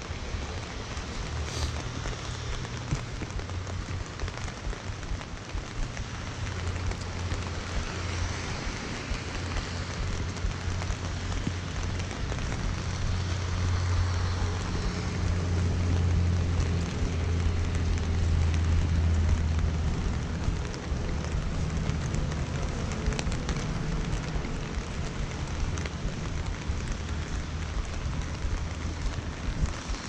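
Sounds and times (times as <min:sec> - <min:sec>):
low rumble of city traffic: 0:00.0 - 0:30.0
rain on a plastic umbrella: 0:00.0 - 0:30.0.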